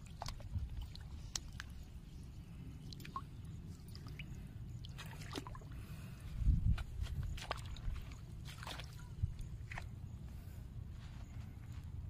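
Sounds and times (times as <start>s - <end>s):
drips and squelches in mud: 0.0s - 10.7s
low steady rumble: 0.0s - 12.0s.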